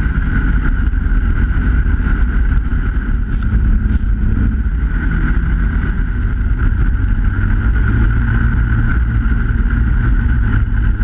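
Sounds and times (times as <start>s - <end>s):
snowmobile engine whine: 0.0s - 11.0s
wind on microphone: 0.0s - 11.0s.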